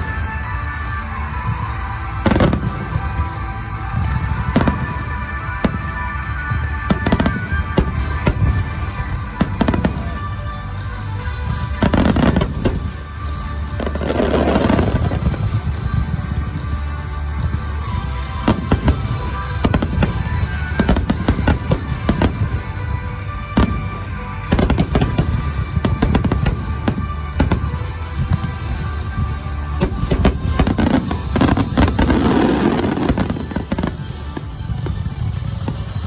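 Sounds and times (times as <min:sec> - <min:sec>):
fireworks bursting: 0:00.0 - 0:36.0
music playing: 0:00.0 - 0:36.0.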